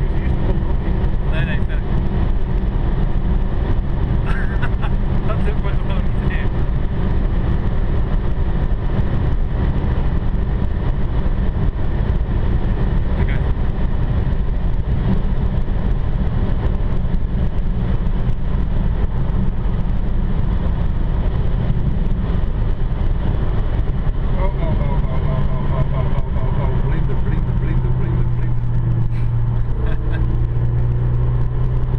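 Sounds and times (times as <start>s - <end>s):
car engine and tyre drone: 0.0s - 31.9s.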